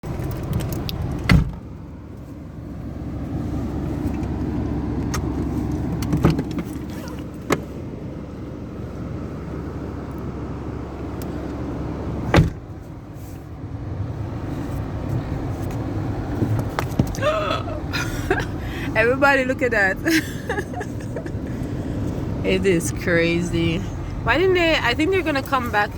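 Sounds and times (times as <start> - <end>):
car engine and road rumble: 0.0 - 25.9.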